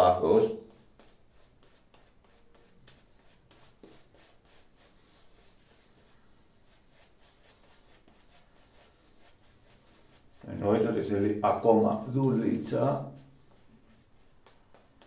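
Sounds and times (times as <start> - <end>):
shaving brush swishing through lather: 0.8 - 14.8.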